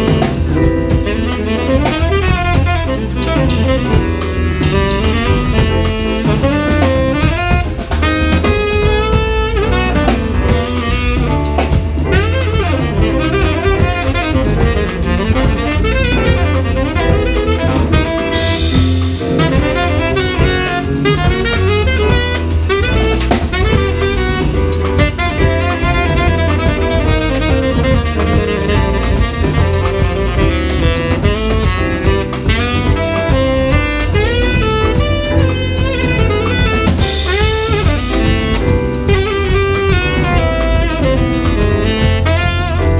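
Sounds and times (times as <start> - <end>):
bass: 0.0 - 42.9
drum kit: 0.0 - 42.9
piano: 0.0 - 42.9
tenor saxophone melody: 0.0 - 42.9.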